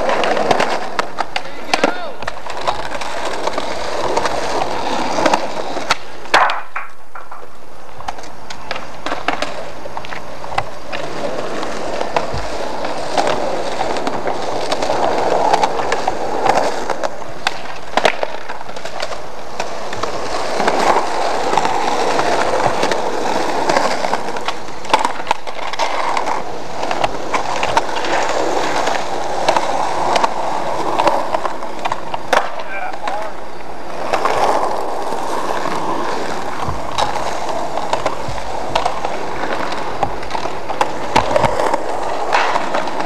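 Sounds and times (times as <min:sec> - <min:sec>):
skateboard clacking on ground: 0:00.0 - 0:43.0
skateboard wheels rolling: 0:00.0 - 0:43.0.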